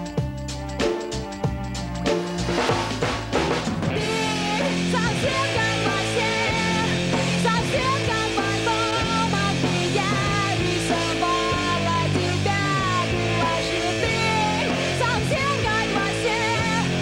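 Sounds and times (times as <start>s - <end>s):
rock band with guitars: 0.0s - 17.0s.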